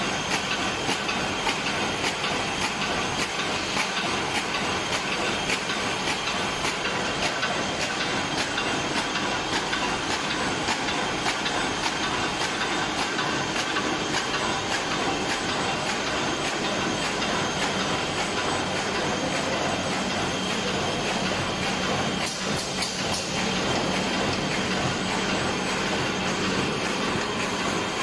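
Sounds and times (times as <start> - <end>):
machine clattering: 0.0 - 28.0
regular machine clicks: 0.3 - 27.8.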